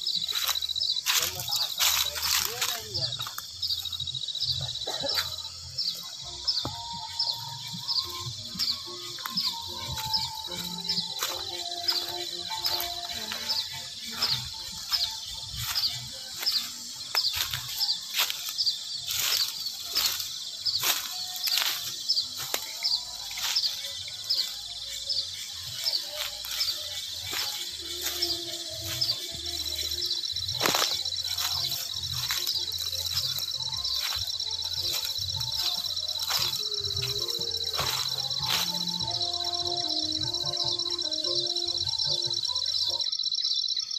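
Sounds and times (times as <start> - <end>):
footsteps on muddy path: 0.0 - 42.4
high insect buzz: 0.0 - 43.8.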